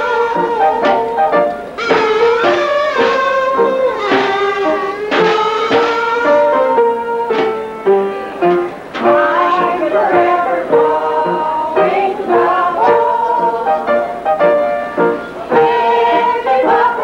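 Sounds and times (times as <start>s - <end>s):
kitchen band playing: 0.0s - 17.0s.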